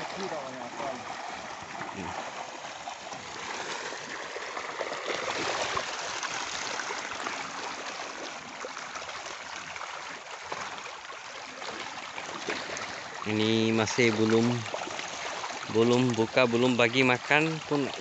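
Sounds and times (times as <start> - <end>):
fish splashing at surface: 0.0 - 13.3, 14.0 - 16.2.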